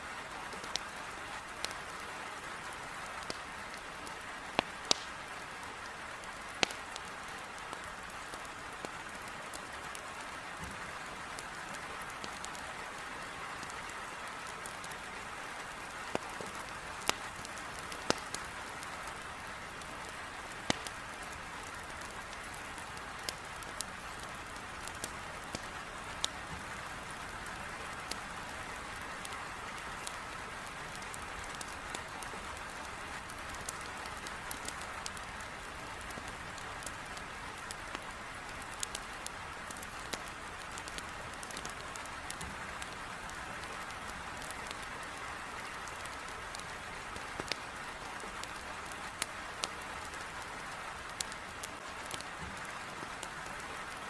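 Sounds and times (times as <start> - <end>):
heavy rain on window: 0.2 - 54.0
wood fire crackling: 0.2 - 54.0.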